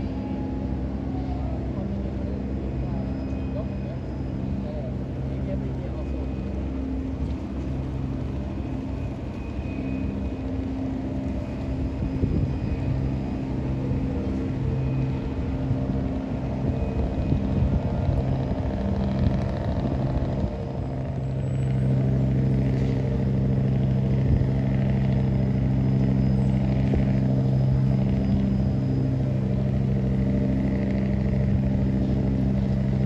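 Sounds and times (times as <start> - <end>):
boat diesel engine droning: 0.0 - 33.0.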